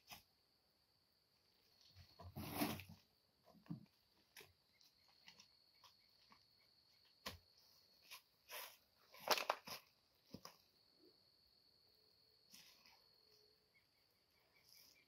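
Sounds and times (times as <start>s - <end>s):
faint high insect trill: 0.0s - 15.0s.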